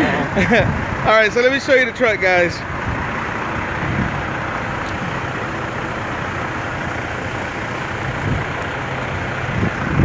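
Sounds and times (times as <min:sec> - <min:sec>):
diesel trucks idling: 0:00.0 - 0:10.0.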